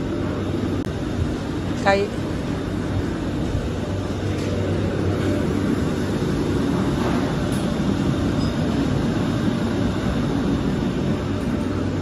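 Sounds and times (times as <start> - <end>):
kitchen machinery roar: 0.0 - 12.0
low hum: 0.0 - 12.0.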